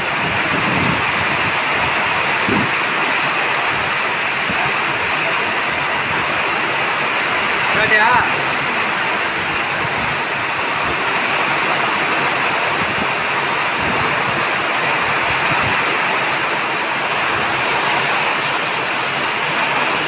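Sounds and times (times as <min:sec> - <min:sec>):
heavy rain on a metal roof: 0:00.0 - 0:20.0.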